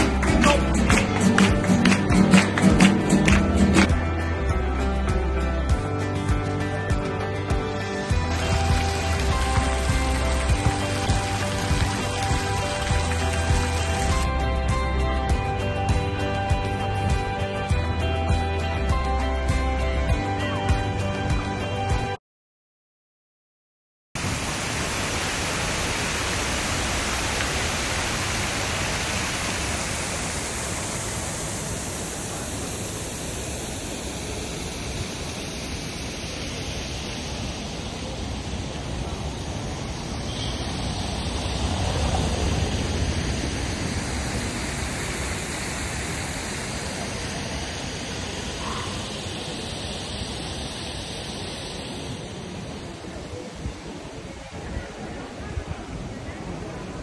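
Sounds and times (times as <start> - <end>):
outdoor street ambience: 0.0 - 22.2, 24.2 - 57.0.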